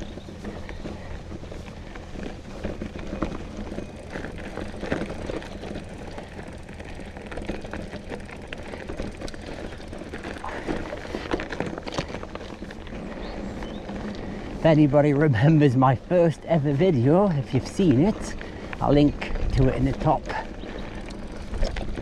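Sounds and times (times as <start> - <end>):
bike clicks and knocks: 0.0 - 22.0
bike rumbling over rough ground: 0.0 - 22.0.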